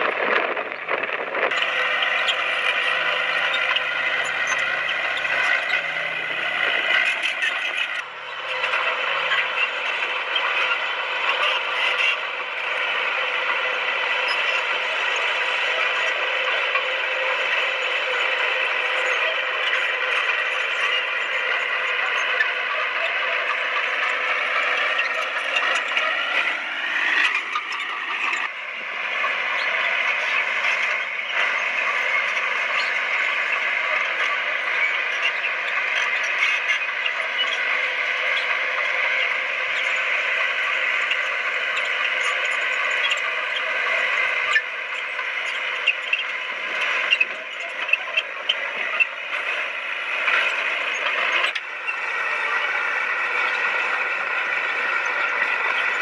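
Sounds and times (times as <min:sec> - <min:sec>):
bulldozer engine: 0:00.0 - 0:56.0.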